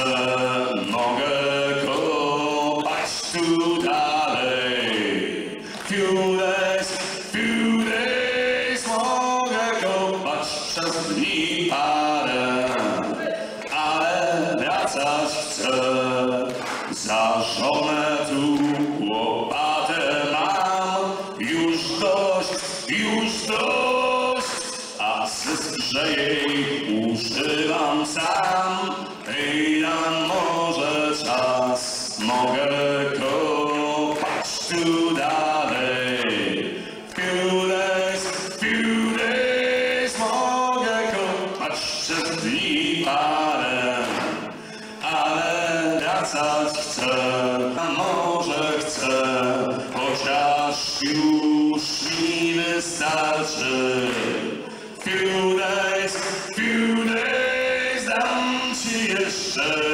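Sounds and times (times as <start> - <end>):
man singing: 0.0 - 59.9.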